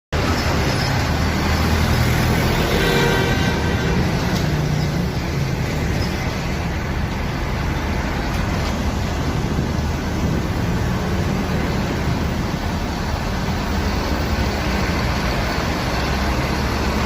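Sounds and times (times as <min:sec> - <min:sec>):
road traffic noise: 0:00.1 - 0:17.0
bus engine running: 0:00.2 - 0:17.0.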